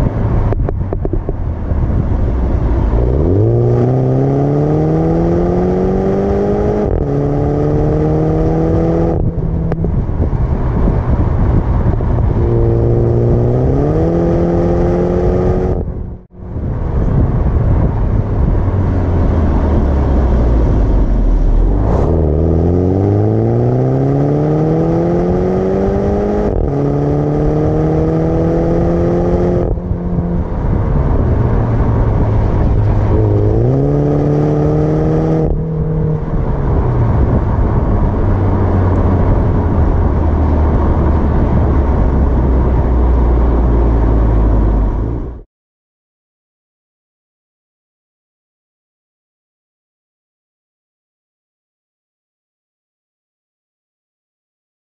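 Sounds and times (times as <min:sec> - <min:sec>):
car exhaust accelerating through gears: 0:00.0 - 0:45.4.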